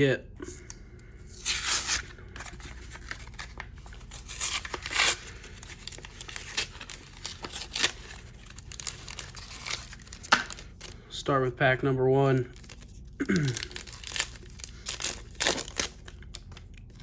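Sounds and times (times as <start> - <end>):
plastic and foil crinkling and tearing: 1.4 - 11.1, 12.5 - 17.0.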